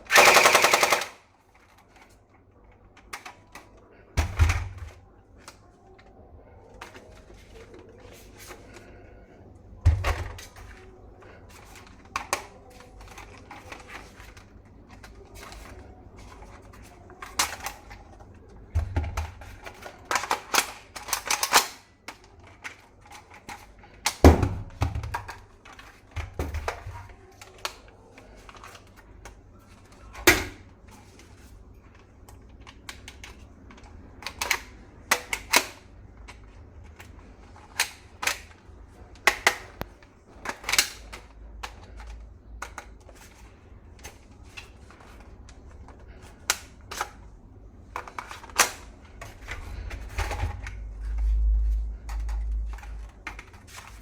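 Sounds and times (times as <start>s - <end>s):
plastic toy rifle clicks and clacks: 0.0s - 6.1s, 6.8s - 8.9s, 11.5s - 18.4s, 19.1s - 47.3s, 47.9s - 51.3s, 52.1s - 54.0s.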